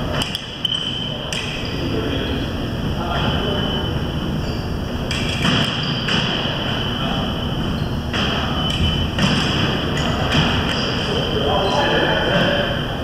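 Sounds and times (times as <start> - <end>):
large hall background noise: 0.0 - 13.0.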